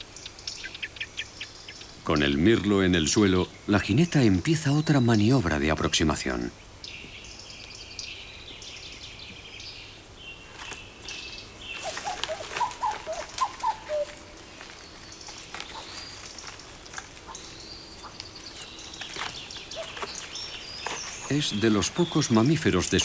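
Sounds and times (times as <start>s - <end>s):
birds chirping and trilling: 0.0s - 23.0s.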